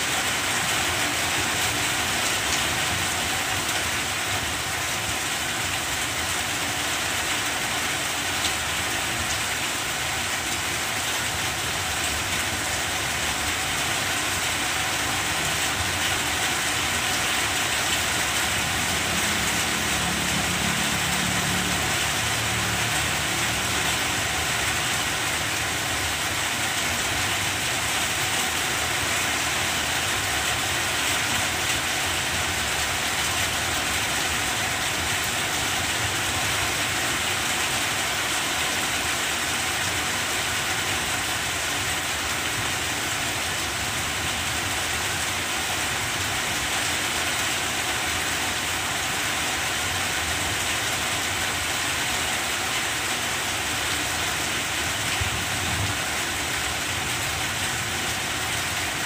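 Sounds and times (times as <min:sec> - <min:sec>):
steady rain pouring: 0:00.0 - 0:59.0.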